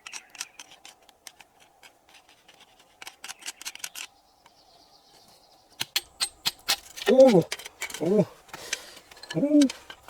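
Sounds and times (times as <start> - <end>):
sharp clicks and scratches: 0.0 - 4.2, 5.8 - 10.0.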